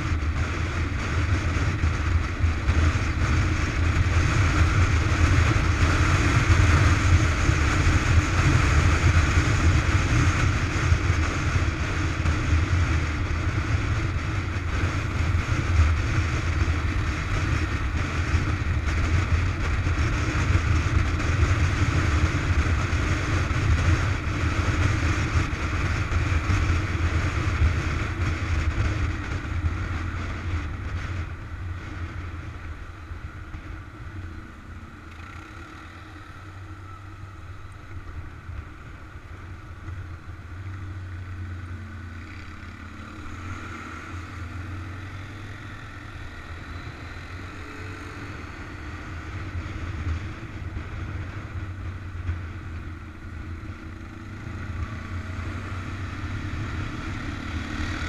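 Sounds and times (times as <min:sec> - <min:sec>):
motorcycle engine droning: 0:00.0 - 0:58.0
wind rushing over microphone: 0:00.0 - 0:58.0.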